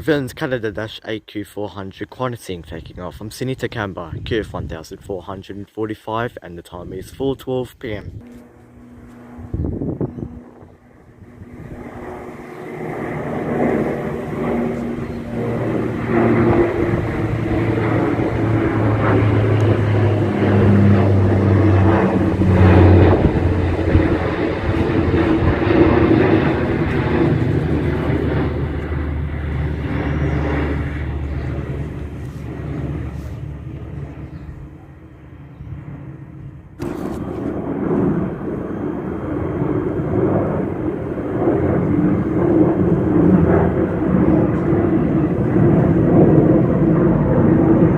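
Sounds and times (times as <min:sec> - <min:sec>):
aircraft engine noise: 0:00.0 - 0:47.9
turboprop plane taking off: 0:06.6 - 0:47.9.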